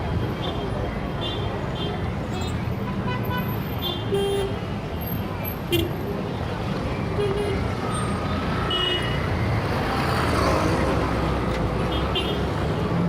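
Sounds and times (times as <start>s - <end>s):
heavy traffic rumble: 0.0s - 13.0s.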